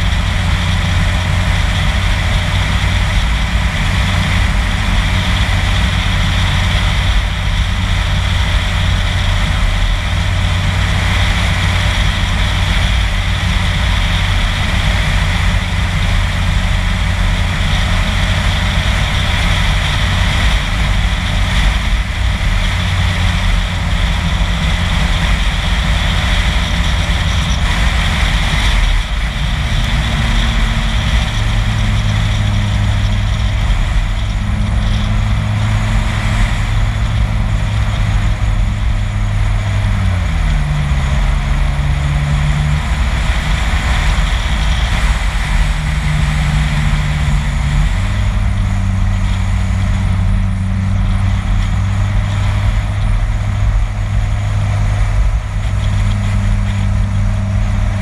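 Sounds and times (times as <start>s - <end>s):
car engine drone: 0.0s - 58.0s
road and wind noise: 0.0s - 58.0s.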